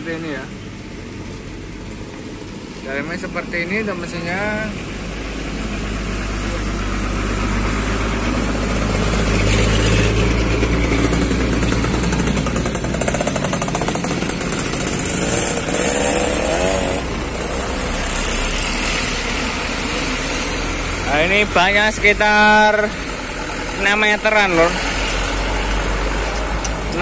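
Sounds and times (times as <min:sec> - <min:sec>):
vehicle engine running: 0:00.2 - 0:27.0.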